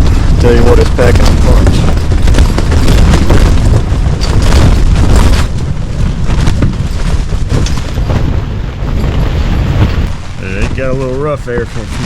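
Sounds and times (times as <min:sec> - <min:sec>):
tent fabric flapping: 0:00.0 - 0:12.0
wind rumble on microphone: 0:00.0 - 0:12.0.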